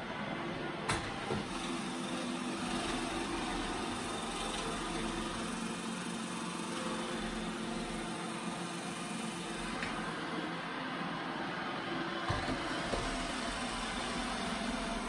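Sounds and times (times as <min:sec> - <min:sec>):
robot vacuum whirring: 0:00.9 - 0:11.4, 0:12.2 - 0:15.0.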